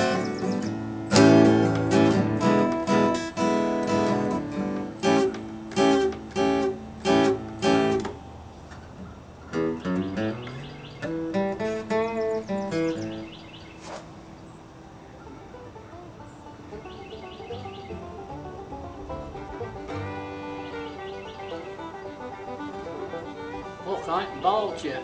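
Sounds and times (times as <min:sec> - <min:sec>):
acoustic guitar strumming and picking: 0:00.0 - 0:14.3, 0:15.2 - 0:25.0.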